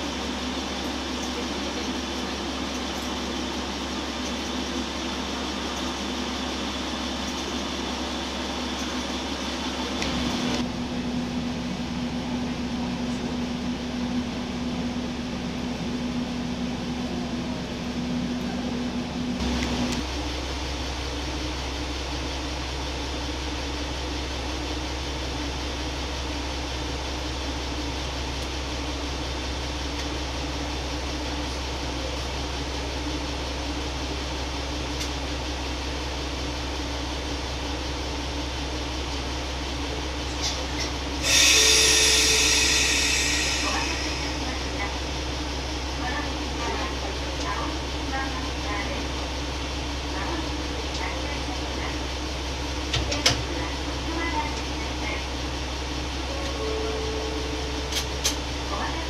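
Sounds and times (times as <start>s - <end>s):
diesel railcar engine idling: 0.0s - 59.0s.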